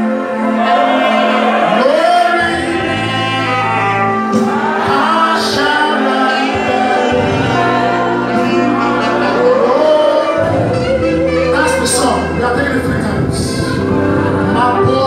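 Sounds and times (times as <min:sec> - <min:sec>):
congregation singing: 0:00.0 - 0:11.6, 0:13.1 - 0:15.0
band accompaniment: 0:00.0 - 0:15.0
lead voice singing: 0:00.1 - 0:12.4, 0:13.1 - 0:15.0.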